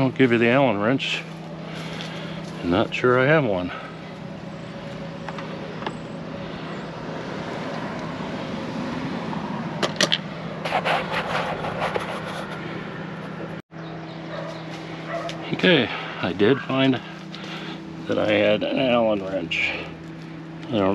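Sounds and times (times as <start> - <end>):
low background hum: 0.0 - 20.9.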